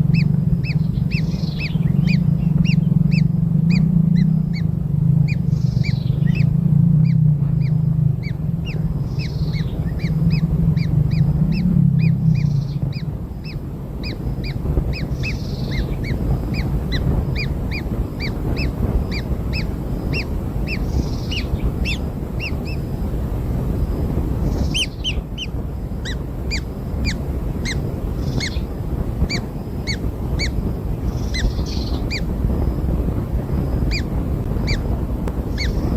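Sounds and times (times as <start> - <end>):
low hum: 0.0 - 35.9
nestlings chirping: 0.0 - 35.9.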